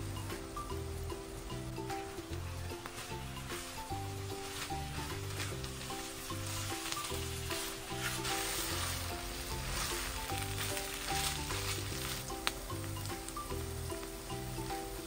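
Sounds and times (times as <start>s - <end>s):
chicken sizzling in frying pan: 0.0s - 15.0s
soft background music: 0.0s - 15.0s.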